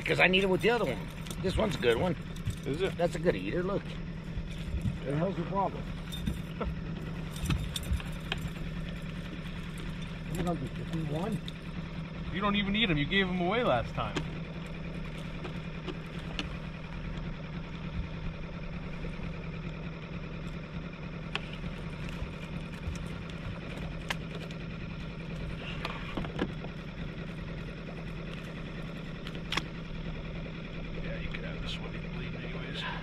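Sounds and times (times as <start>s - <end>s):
boat motor humming: 0.0s - 33.0s.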